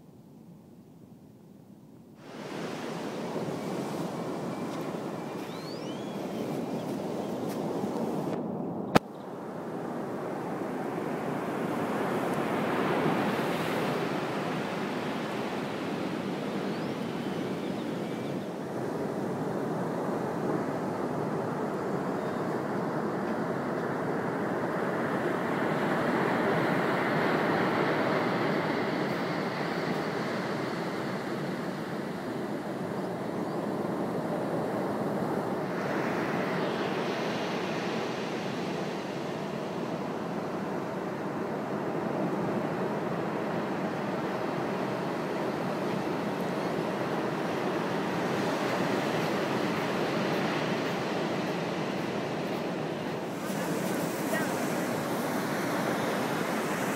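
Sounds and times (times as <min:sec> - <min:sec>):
ocean surf rushing: 0:02.2 - 0:56.9.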